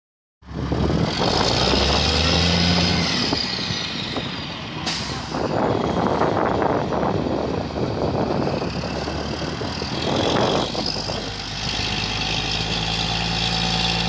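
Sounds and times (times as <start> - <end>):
truck diesel engine: 0.4 - 14.0.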